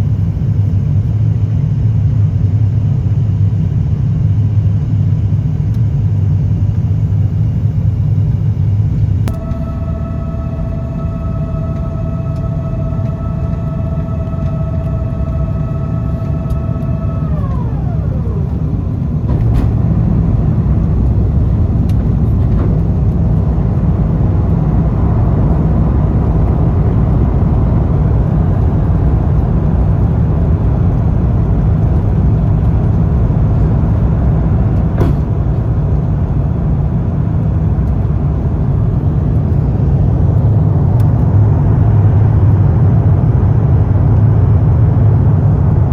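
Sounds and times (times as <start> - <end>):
low rumble of aircraft engines: 0.0 - 45.9
whine with overtones: 2.3 - 45.9.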